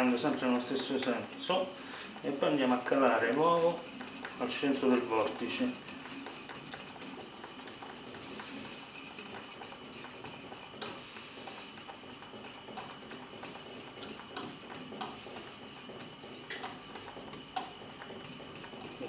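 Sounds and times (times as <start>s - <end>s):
whisk ticking against saucepan: 0.0s - 19.0s.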